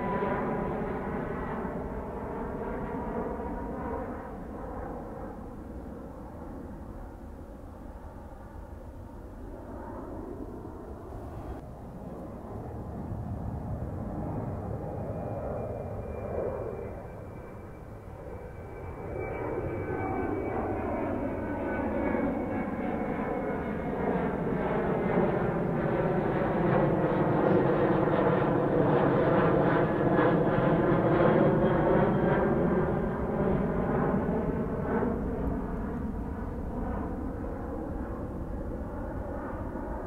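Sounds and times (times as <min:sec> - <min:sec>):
jet engines of plane overhead: 0:00.0 - 0:40.0.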